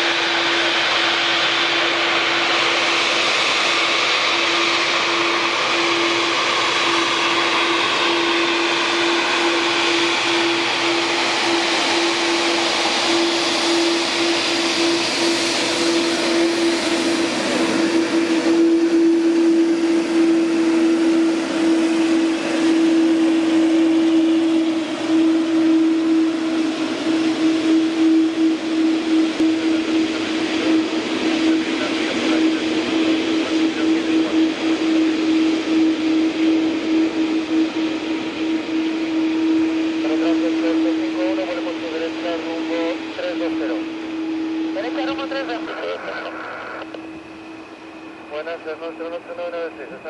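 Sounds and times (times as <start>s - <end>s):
constant low hum: 0.0s - 50.0s
jet engine rushing whine: 0.0s - 50.0s.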